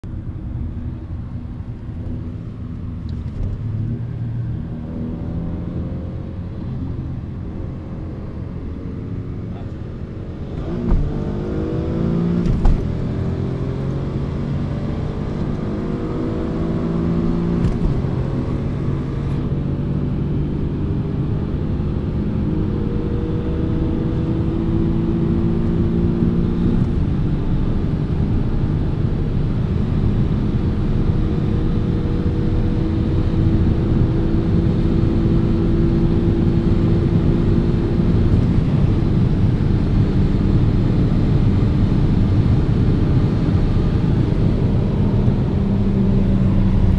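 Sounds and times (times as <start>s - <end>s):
car engine accelerating: 0.0s - 46.9s
wind and road noise: 0.0s - 46.9s.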